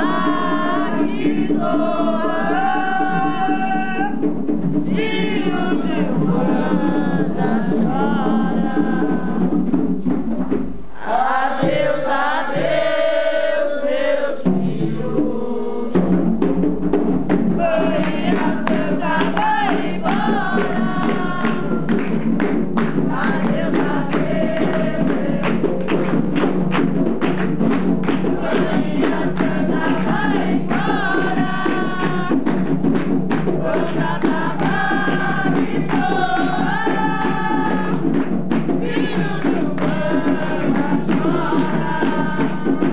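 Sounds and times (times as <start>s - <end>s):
group of voices singing: 0.0s - 10.2s, 10.9s - 16.5s, 17.3s - 42.9s
hand drums beating: 0.0s - 42.9s.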